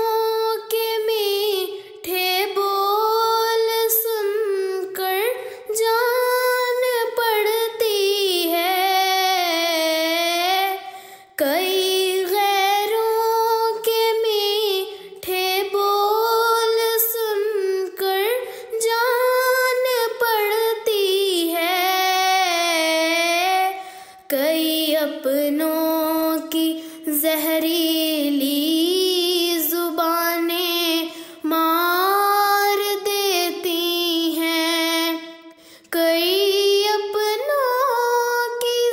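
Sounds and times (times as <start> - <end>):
woman singing: 0.0 - 38.9.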